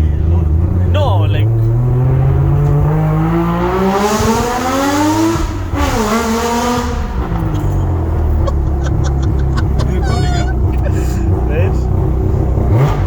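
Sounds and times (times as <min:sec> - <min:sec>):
rotary engine accelerating: 0:00.0 - 0:13.0.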